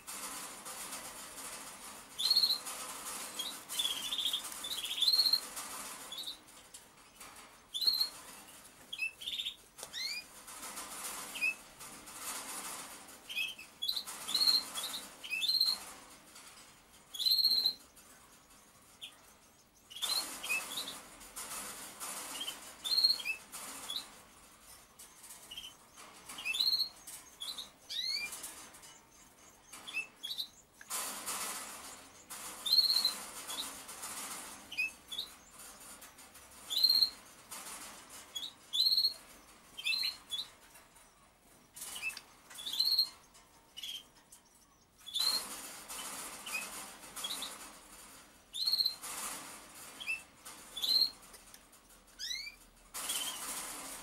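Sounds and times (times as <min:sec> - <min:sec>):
birds chirping and squeaking: 0:00.0 - 0:54.0.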